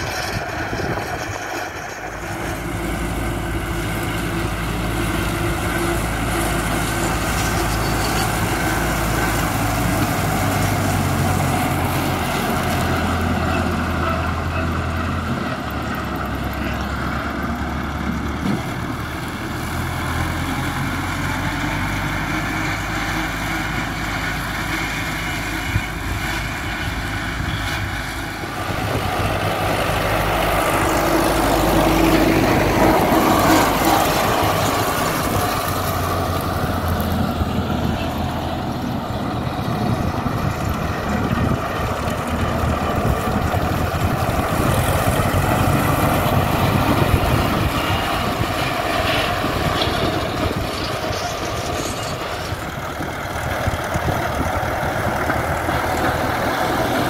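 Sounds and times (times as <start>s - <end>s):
drum mower running: 0.0s - 57.0s
tractor diesel engine running: 0.0s - 57.0s.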